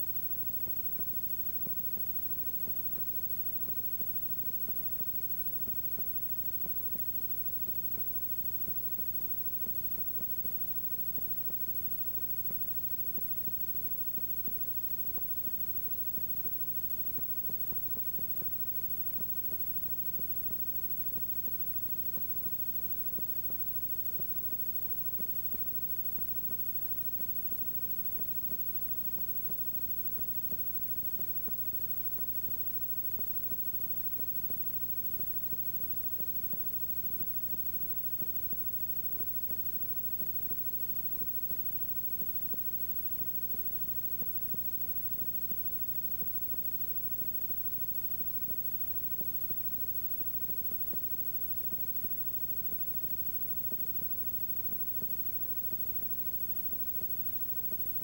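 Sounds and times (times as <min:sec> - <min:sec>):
small ticks: 0:00.0 - 0:58.0.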